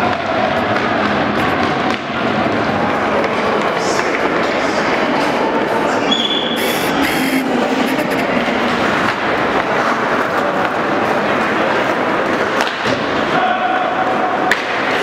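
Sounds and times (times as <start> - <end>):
spectators: 0.0 - 15.0.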